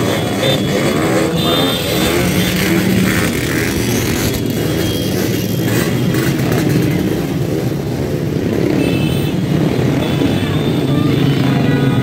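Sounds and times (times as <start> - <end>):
scooter engines droning: 0.0 - 12.0.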